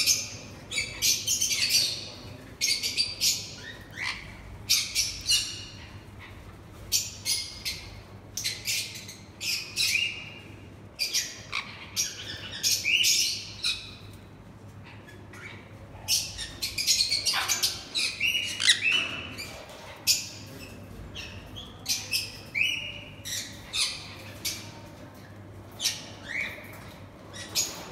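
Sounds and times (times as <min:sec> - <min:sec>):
parrots squawking and chirping: 0:00.0 - 0:10.4, 0:11.0 - 0:14.1, 0:14.7 - 0:24.9, 0:25.7 - 0:27.9.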